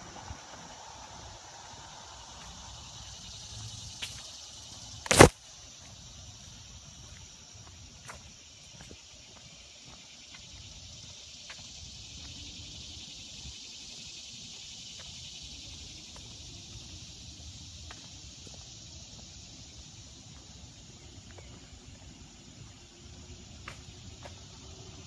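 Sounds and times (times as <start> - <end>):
insect chorus buzzing: 0.0 - 25.0.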